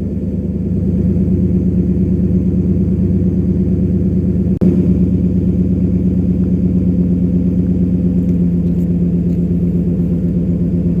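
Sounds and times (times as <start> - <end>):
engine exhaust idling: 0.0 - 11.0.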